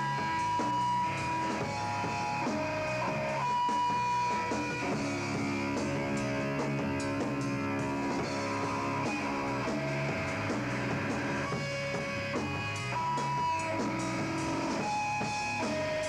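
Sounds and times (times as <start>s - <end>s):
electric guitar sustained notes: 0.0s - 16.0s
rock band playing: 0.0s - 16.0s.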